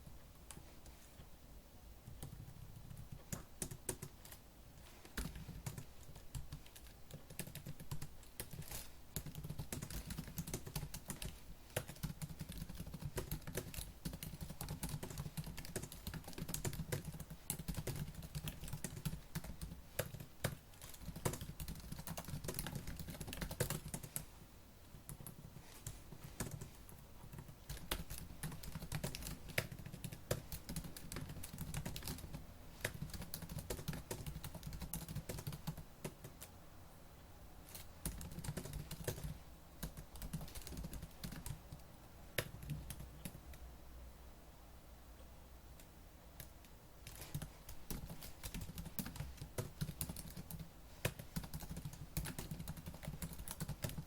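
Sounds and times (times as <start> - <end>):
fast typing on laptop keyboard: 2.1 - 4.4, 5.1 - 24.4, 25.0 - 36.5, 37.7 - 43.5, 46.4 - 54.0.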